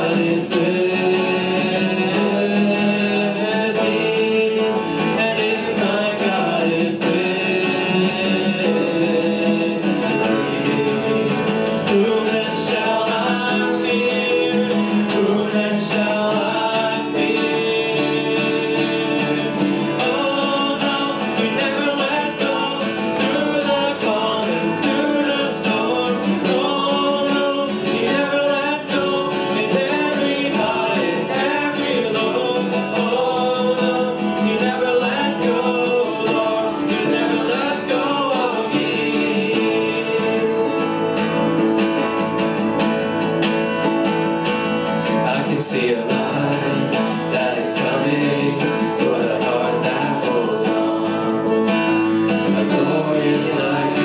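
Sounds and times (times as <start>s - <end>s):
keyboard accompaniment: 0.0s - 54.0s
person singing lead vocal: 0.0s - 54.0s
strummed acoustic guitar: 0.0s - 54.0s.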